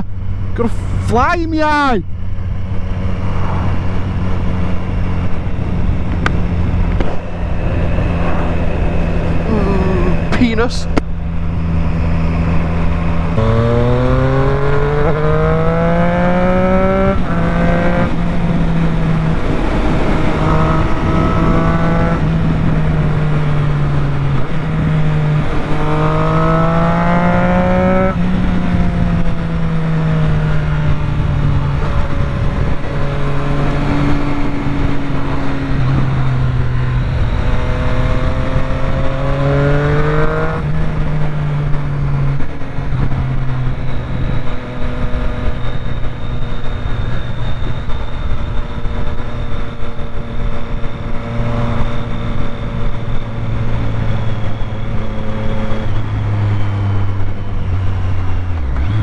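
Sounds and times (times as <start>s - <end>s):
wind rush: 0.0s - 59.0s
motorcycle engine revving through gears: 2.1s - 59.0s.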